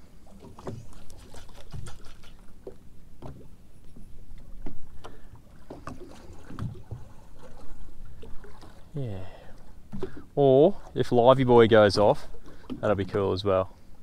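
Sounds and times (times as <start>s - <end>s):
waves lapping against boat hull: 0.0s - 14.0s.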